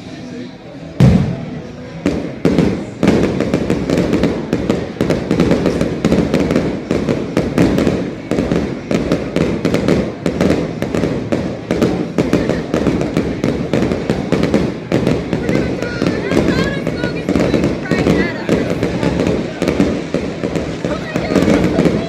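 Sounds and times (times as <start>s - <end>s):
fireworks bangs and crackles: 0.0s - 22.0s
fireworks rumble: 0.0s - 22.0s.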